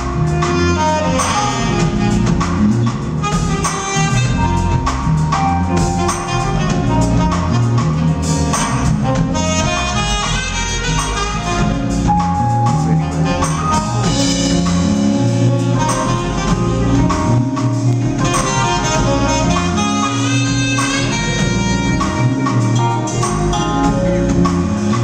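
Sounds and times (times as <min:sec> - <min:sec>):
smooth jazz band playing: 0:00.0 - 0:25.0
tenor saxophone lead: 0:00.0 - 0:25.0.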